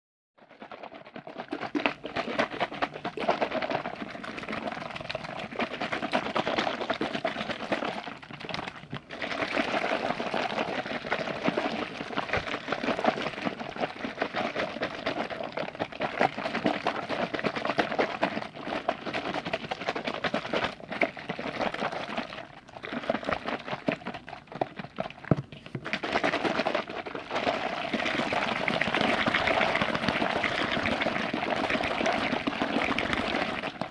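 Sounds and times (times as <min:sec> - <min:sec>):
wet crackling churn of liquid: 0:00.4 - 0:33.9.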